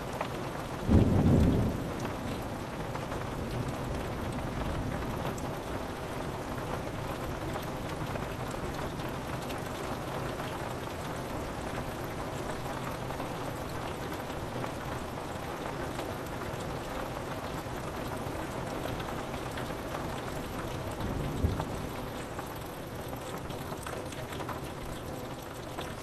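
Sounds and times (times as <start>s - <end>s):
rain on a window: 0.0s - 26.0s.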